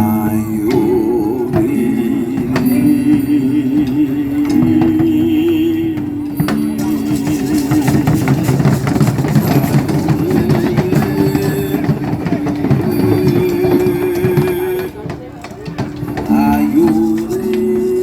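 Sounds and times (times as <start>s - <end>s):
held melody line: 0.0s - 18.0s
hand drums and percussion: 0.5s - 18.0s.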